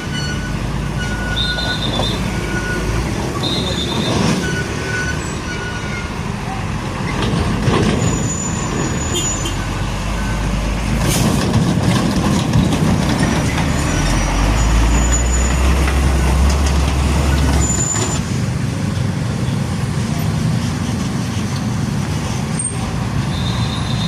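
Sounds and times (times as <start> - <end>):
diesel truck passing: 0.0 - 24.0
road traffic: 0.0 - 24.0.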